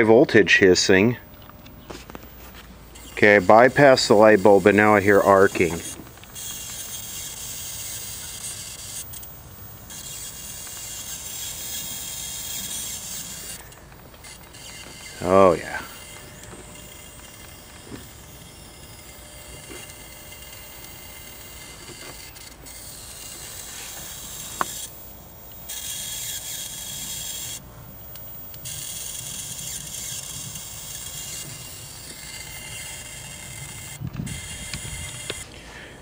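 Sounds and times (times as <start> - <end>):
high-voltage hissing and arcing: 2.2 - 35.5.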